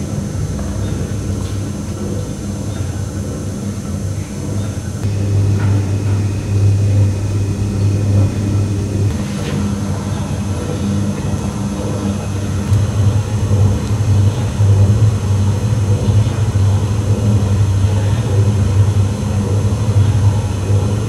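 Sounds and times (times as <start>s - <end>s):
low droning hum: 0.0s - 21.0s.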